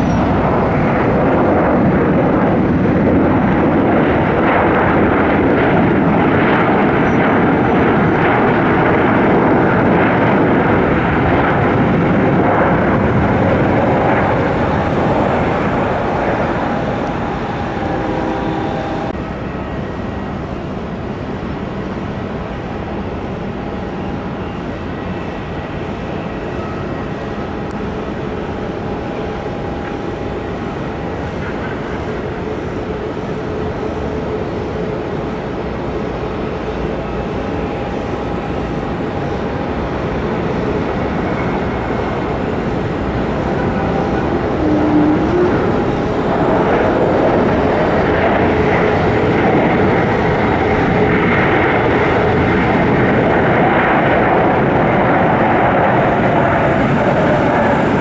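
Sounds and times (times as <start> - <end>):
jet engine rumble: 0.0 - 58.0
jet engine whine: 0.0 - 58.0.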